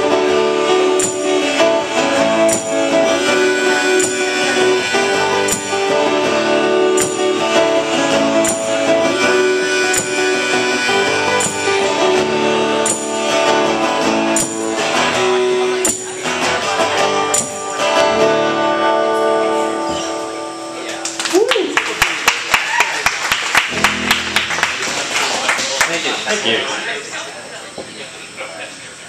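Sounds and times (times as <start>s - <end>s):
acoustic guitars strumming: 0.0s - 22.0s, 23.6s - 26.6s.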